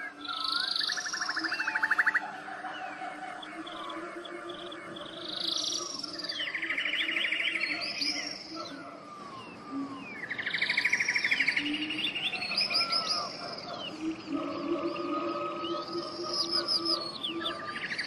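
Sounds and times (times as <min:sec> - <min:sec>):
birdsong with chirps and trills: 0:00.0 - 0:18.0.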